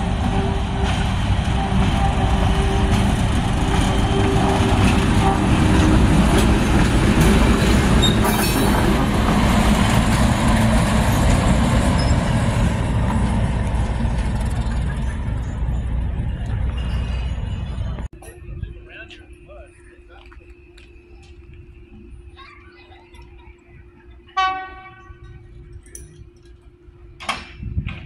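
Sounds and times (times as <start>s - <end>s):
diesel locomotive engine rumble: 0.0s - 28.0s.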